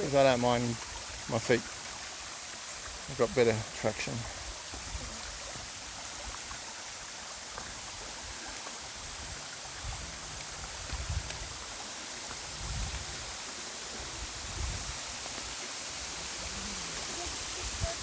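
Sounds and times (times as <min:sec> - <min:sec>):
stream rushing over waterfall: 0:00.0 - 0:18.0.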